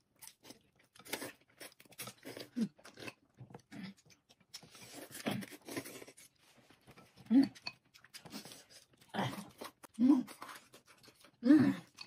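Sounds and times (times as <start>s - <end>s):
noodles slurped and chewed: 0.0s - 12.0s.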